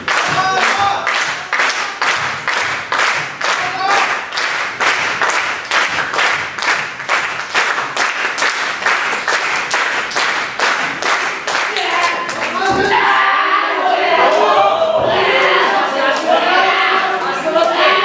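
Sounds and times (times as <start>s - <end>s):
crowd clapping in unison: 0.0s - 13.0s, 14.2s - 18.0s.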